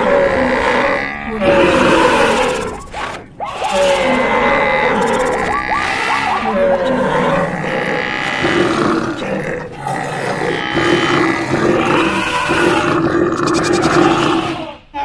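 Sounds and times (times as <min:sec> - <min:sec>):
animal roars and growls: 0:00.0 - 0:14.7
din of many animals: 0:00.0 - 0:15.0.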